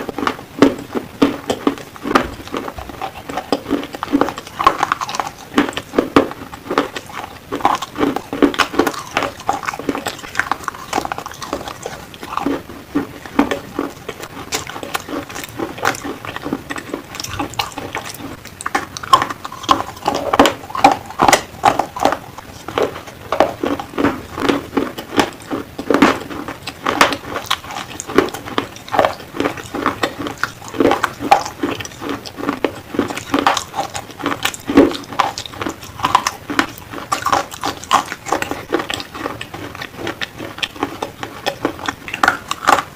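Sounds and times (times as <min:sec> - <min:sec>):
slate pencils being chewed: 0:00.0 - 0:42.9.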